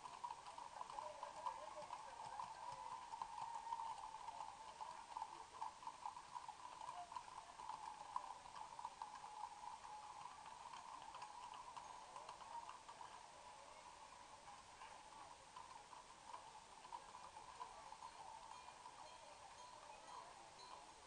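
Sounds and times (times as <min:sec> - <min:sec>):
horse hooves on pavement: 0:00.0 - 0:20.9
faint steady hum: 0:00.0 - 0:21.0.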